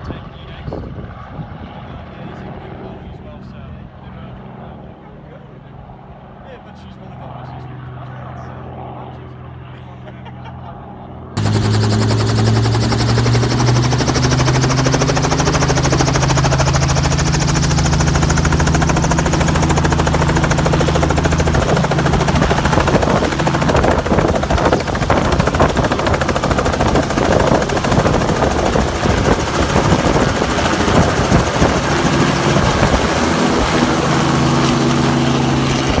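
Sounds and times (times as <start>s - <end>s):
helicopter engine and rotor: 0.0s - 36.0s.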